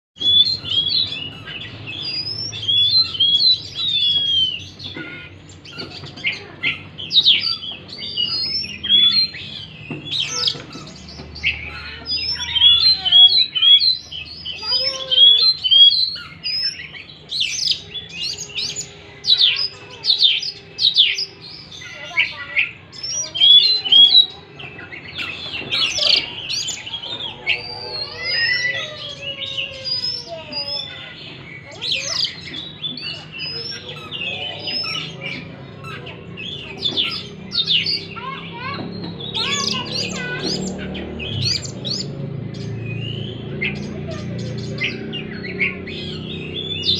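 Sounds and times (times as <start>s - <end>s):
bird singing varied song: 0.2s - 46.9s.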